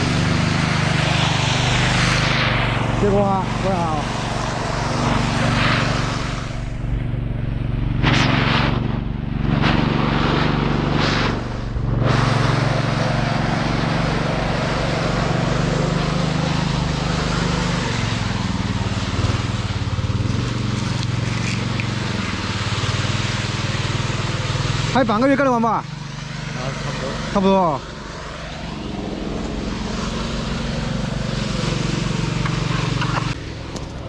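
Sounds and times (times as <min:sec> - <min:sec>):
bursts of rushing noise: 0:00.0 - 0:34.0
diesel engine running: 0:00.0 - 0:34.0.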